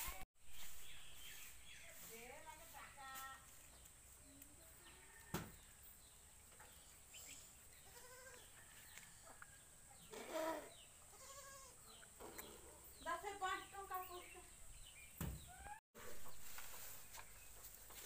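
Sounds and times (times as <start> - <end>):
quiet outdoor background: 0.0 - 18.0.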